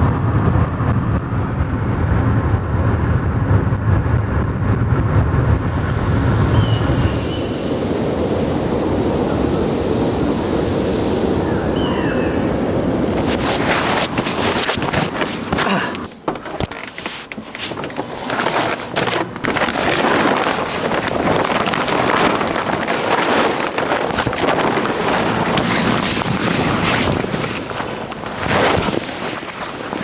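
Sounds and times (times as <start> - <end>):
rushing outdoor noise: 0.0 - 30.0.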